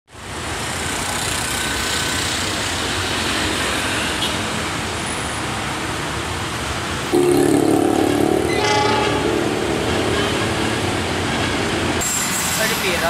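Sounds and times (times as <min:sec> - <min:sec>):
traffic noise: 0:00.1 - 0:13.0
train rumbling: 0:00.2 - 0:13.0.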